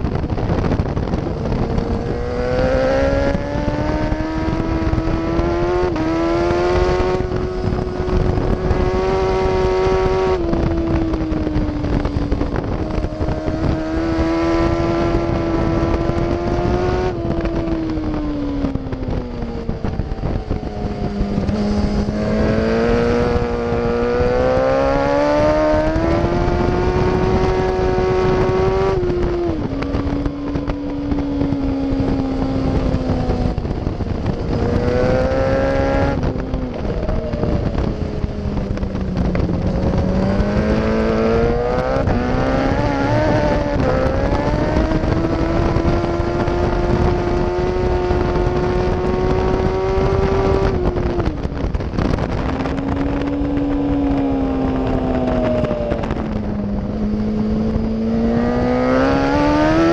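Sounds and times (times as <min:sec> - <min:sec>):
motorcycle engine at speed: 0:00.0 - 0:59.9
wind buffeting on microphone: 0:00.0 - 0:59.9.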